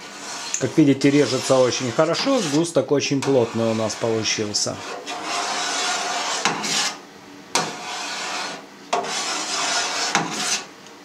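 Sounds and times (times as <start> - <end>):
knife scraping steel vat: 0.0 - 7.0, 7.6 - 10.7.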